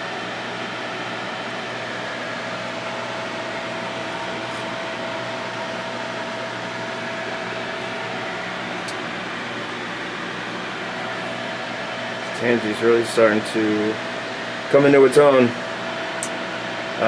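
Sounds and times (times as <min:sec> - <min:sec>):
fans whirring: 0:00.0 - 0:17.0.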